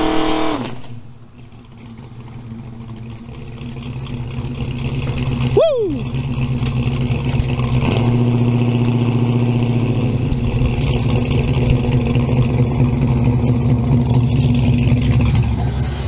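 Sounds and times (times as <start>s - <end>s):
car engine idling: 0.8s - 16.0s.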